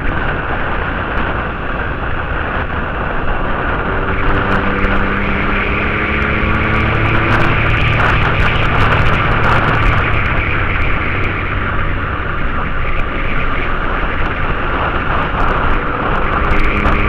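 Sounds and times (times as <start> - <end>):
motorcycle engine under load: 0.0 - 17.0
wind noise on microphone: 0.0 - 17.0.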